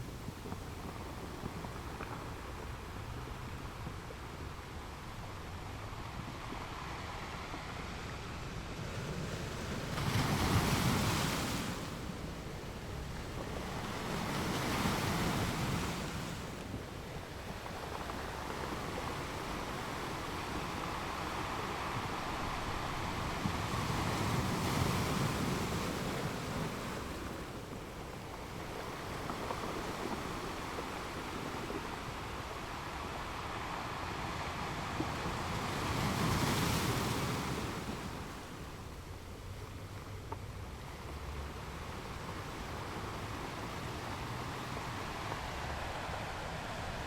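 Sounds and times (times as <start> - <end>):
ocean waves washing onto shore: 0.0 - 47.0.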